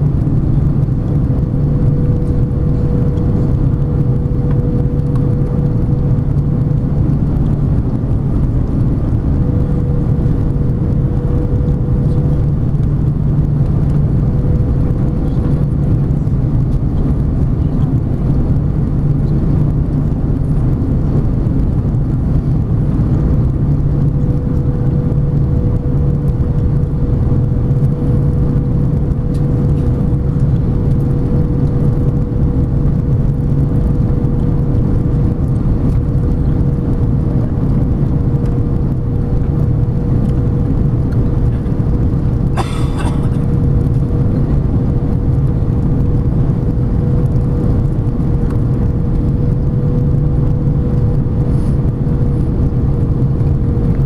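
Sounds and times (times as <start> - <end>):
aircraft engine and airflow rumble: 0.0 - 54.0.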